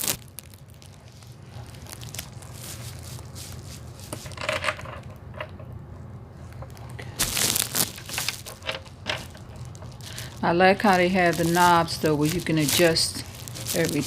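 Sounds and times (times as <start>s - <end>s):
packaging rustling and scraping: 0.0s - 5.4s, 6.4s - 14.0s
low steady hum: 0.0s - 14.0s.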